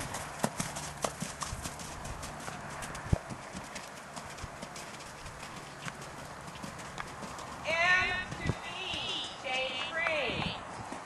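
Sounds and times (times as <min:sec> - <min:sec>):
horse hoofbeats on wet sand: 0:00.0 - 0:11.0.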